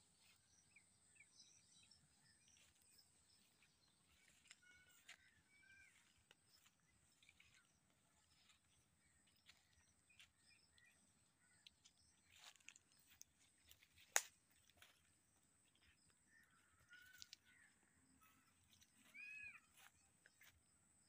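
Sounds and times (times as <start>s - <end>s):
faint bird calls: 1.8s - 13.8s, 15.7s - 20.5s.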